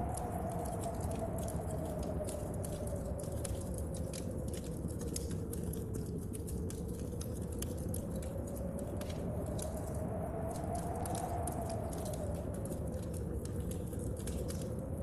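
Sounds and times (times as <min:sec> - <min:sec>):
rain: 0:00.0 - 0:15.0
storm wind howling: 0:00.0 - 0:15.0
wood fire crackling and popping: 0:00.0 - 0:15.0.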